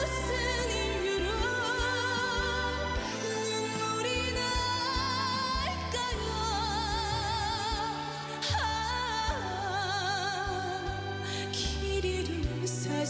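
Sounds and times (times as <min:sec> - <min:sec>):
band accompaniment: 0:00.0 - 0:13.0
woman singing a slow ballad: 0:00.0 - 0:13.0.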